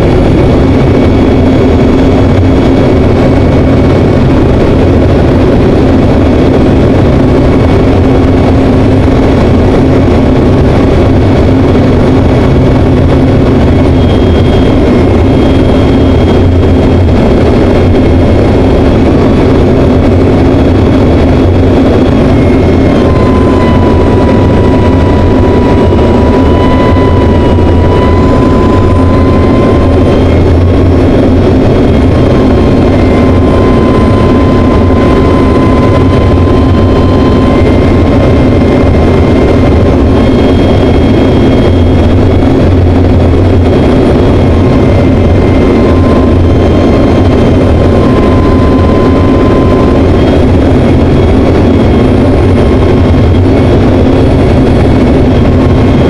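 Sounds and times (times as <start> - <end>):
propeller aircraft engine drone: 0.0 - 56.0
thin high whine: 0.0 - 56.0.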